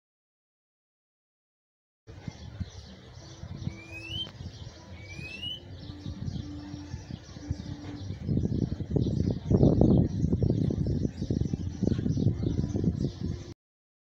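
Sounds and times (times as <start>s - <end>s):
bird singing thin rising notes: 2.1s - 13.6s.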